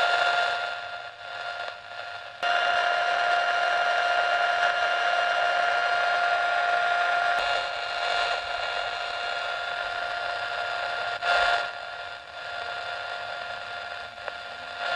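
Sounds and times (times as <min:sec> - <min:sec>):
radio receiver hiss: 0:00.0 - 0:14.9.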